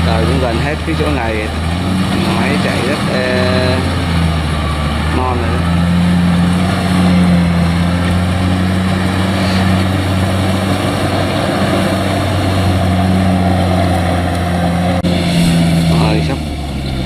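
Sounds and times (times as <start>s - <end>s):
diesel engine humming: 0.0s - 17.0s
harvesting machinery clatter: 0.0s - 17.0s.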